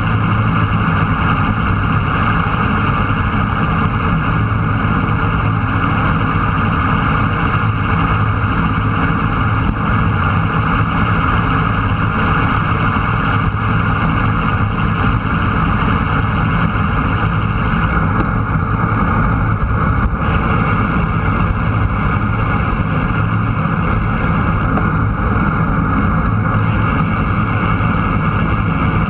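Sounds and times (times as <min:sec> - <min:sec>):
road and wind noise: 0:00.0 - 0:29.0
vehicle engine running: 0:00.0 - 0:29.0.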